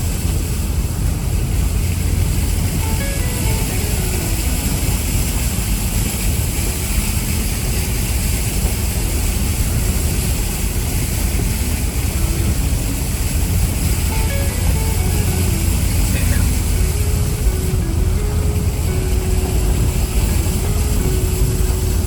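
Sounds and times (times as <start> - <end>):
low engine rumble: 0.0 - 22.0
road and wind noise: 0.0 - 22.0.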